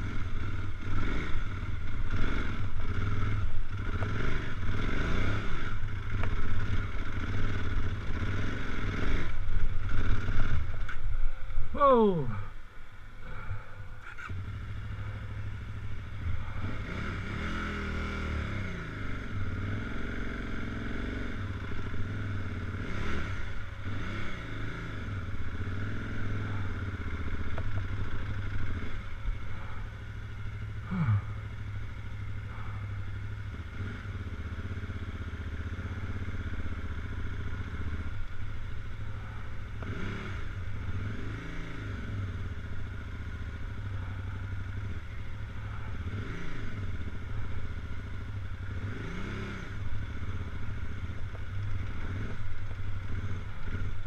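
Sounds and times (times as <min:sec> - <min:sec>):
motorcycle engine revving: 0:00.0 - 0:12.3, 0:13.2 - 0:54.0.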